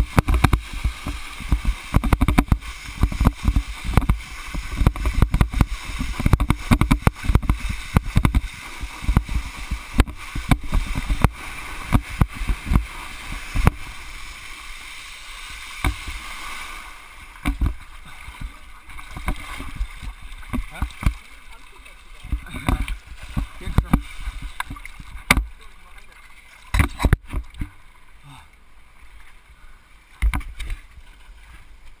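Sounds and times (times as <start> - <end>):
water rushing under a wakeboard: 0.0 - 32.0.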